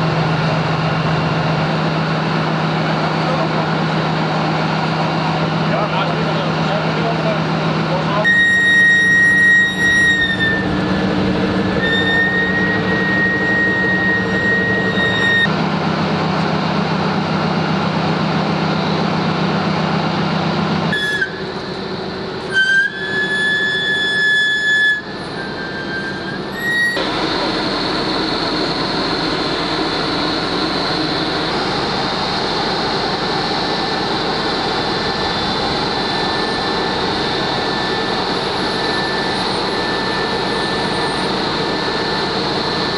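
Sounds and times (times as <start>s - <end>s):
crane hydraulics whining: 0.0s - 42.9s
heavy vehicle engines: 0.0s - 42.9s.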